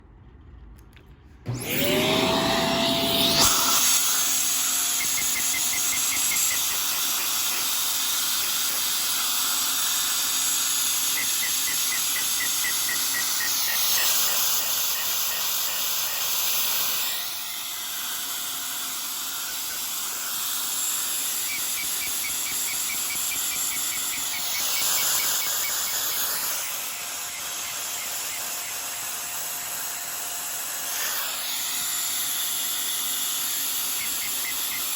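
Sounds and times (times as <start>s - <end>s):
vacuum cleaner motor whine: 1.5s - 34.9s.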